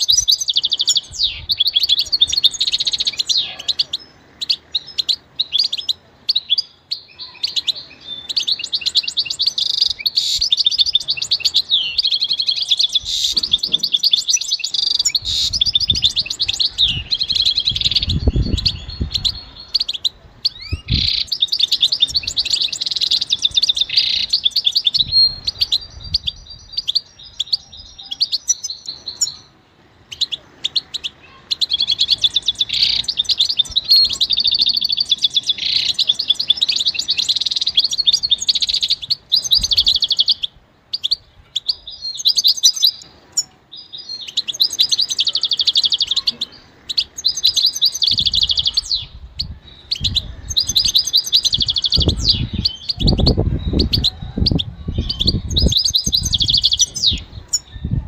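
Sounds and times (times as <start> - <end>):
goldfinch twittering song: 0.0 - 58.0.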